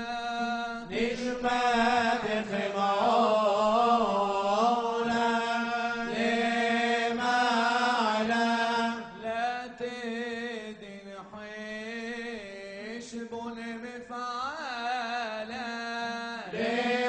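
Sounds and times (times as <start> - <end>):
man singing ornamented melody: 0.0 - 17.0.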